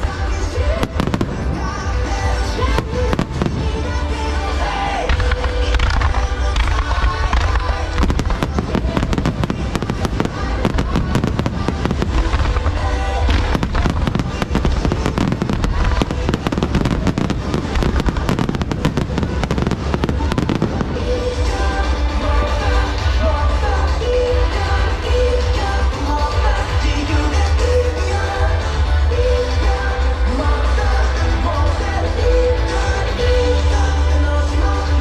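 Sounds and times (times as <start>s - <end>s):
fireworks bangs and crackling: 0.0s - 35.0s
loud music with heavy bass: 0.0s - 35.0s.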